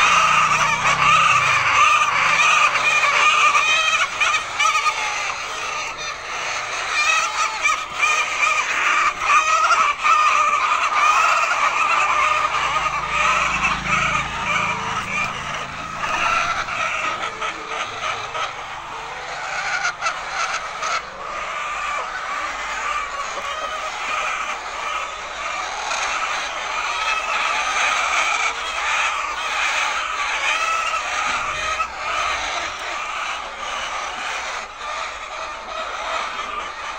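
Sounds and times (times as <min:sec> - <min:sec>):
hens clucking and squawking: 0:00.0 - 0:36.9.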